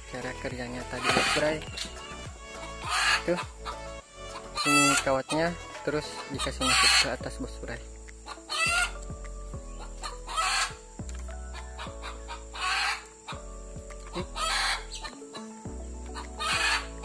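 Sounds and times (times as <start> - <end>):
background music: 0.0 - 17.0
chickens clucking: 1.0 - 7.2, 7.8 - 9.1, 9.7 - 17.0.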